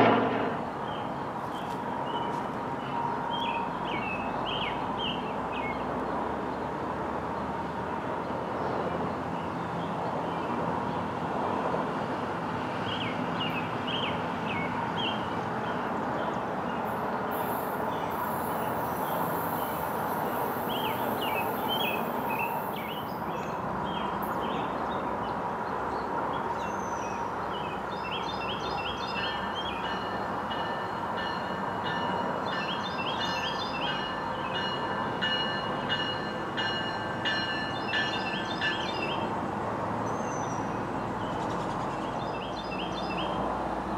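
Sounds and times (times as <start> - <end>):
railcar engine drone: 0.0 - 43.9.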